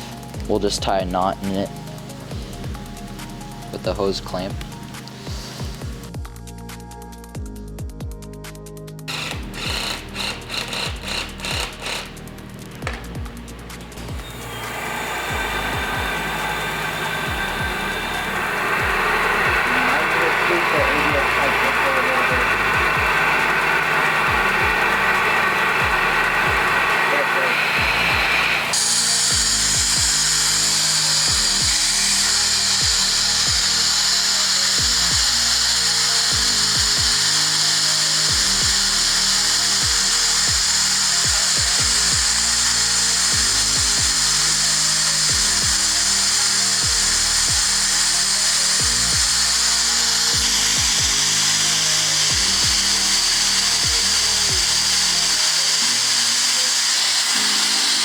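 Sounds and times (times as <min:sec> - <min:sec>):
loud rush of hissing air: 0:00.0 - 0:00.6, 0:04.7 - 0:06.1, 0:09.1 - 0:58.0
background music with a beat: 0:00.0 - 0:27.0, 0:27.8 - 0:37.4, 0:38.2 - 0:56.4.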